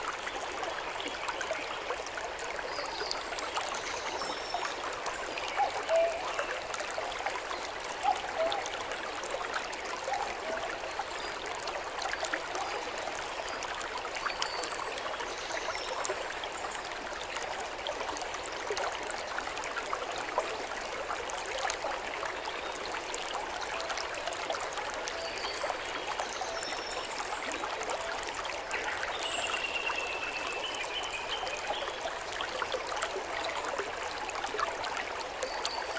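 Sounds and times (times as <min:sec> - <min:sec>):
stream water rushing and babbling: 0:00.0 - 0:35.9.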